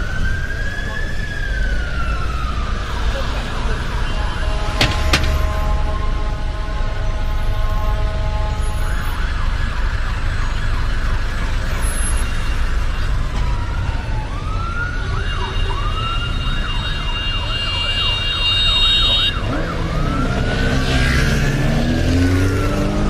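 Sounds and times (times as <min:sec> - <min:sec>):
emergency vehicle sirens wailing: 0:00.0 - 0:23.0.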